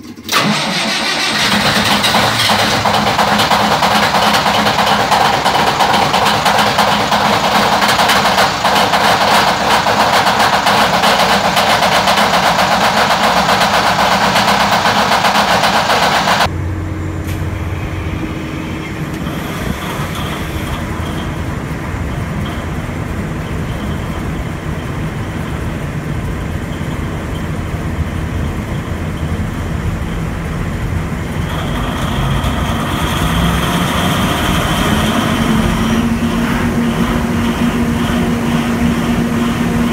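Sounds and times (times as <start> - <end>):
diesel generator running rough: 0.0 - 39.9
generator low hum: 0.0 - 39.9.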